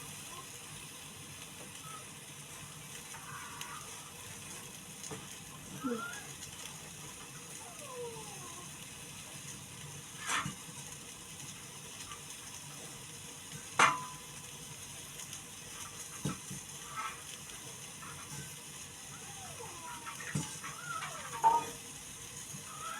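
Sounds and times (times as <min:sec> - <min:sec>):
faint frying sizzle: 0:00.0 - 0:22.9.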